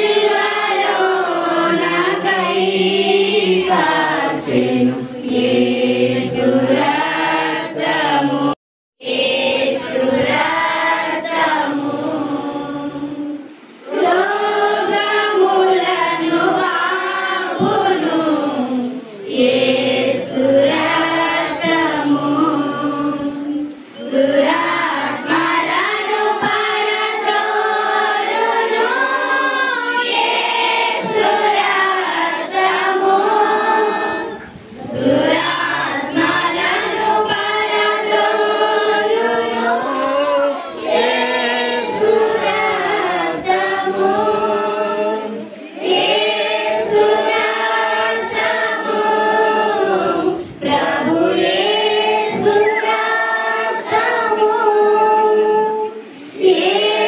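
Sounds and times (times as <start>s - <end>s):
congregation singing without instruments: 0.0s - 57.0s.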